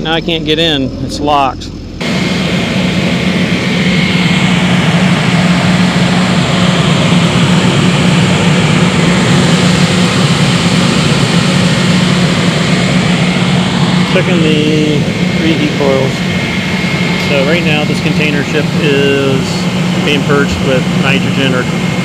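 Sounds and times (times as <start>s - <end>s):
air blower rushing: 0.0s - 22.0s
low hum: 0.0s - 22.0s.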